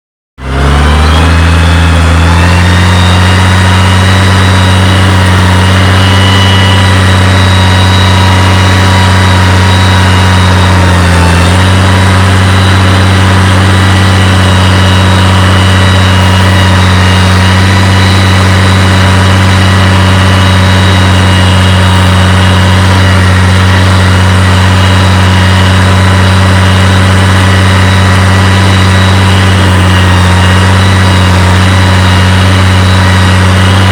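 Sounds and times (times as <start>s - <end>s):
tractor diesel engine rumbling: 0.4s - 33.9s.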